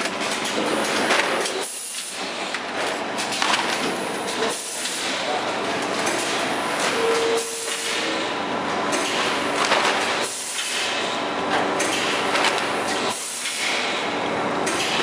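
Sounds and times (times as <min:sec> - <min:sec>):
packing machine hissing and clattering: 0:00.0 - 0:15.0.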